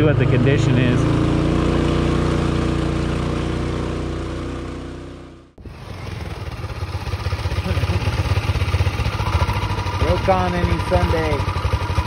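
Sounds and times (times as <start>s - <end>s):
pulsing engine at low revs: 0.0s - 12.0s
motorbike engine running: 0.3s - 12.0s.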